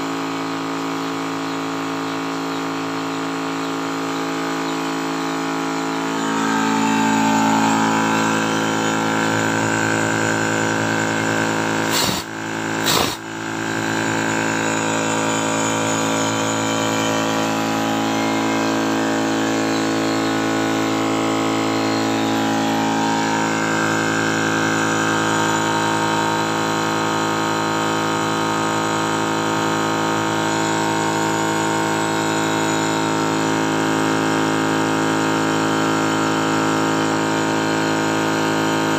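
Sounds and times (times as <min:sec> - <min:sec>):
air compressor humming: 0:00.0 - 0:38.9.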